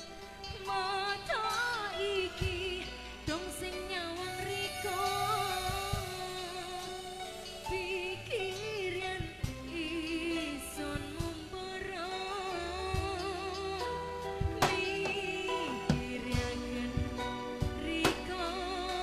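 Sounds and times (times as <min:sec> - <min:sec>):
bass: 0:00.0 - 0:19.0
person singing with vibrato: 0:00.0 - 0:19.0.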